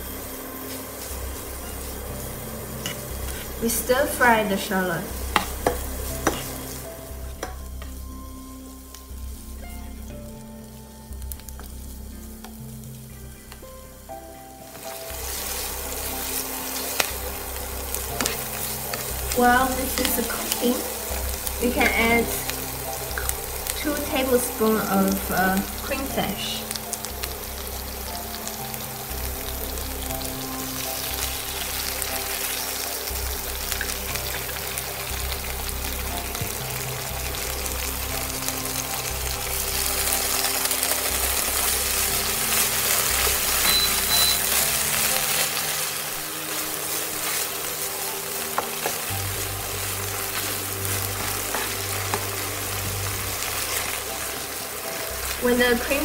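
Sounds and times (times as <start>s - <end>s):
light background music: 0.0s - 56.0s
shallots sizzling in a frying pan: 0.0s - 56.0s.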